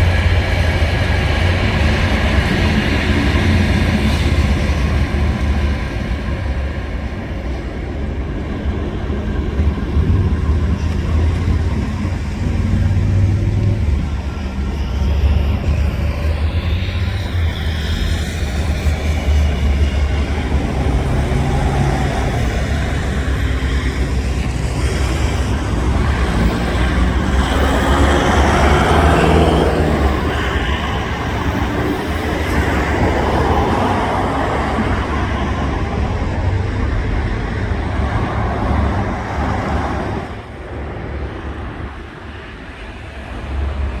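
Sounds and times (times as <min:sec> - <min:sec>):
train wheels rumbling: 0:00.0 - 0:44.0.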